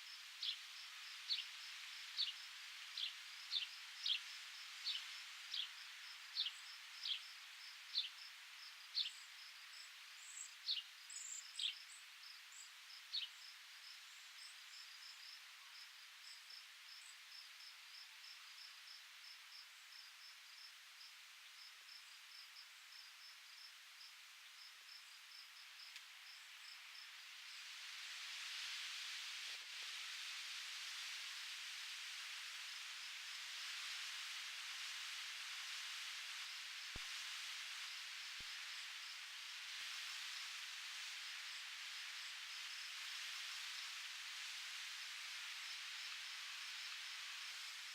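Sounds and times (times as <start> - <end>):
faint breeze hiss: 0.0 - 47.9.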